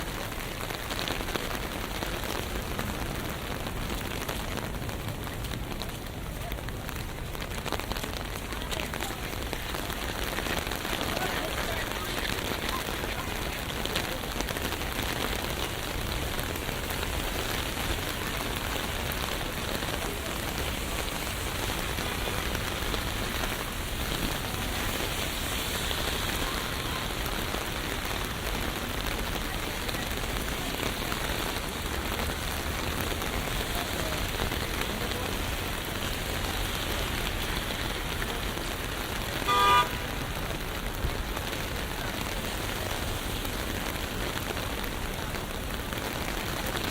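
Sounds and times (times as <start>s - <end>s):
rain on a street: 0.0s - 46.9s.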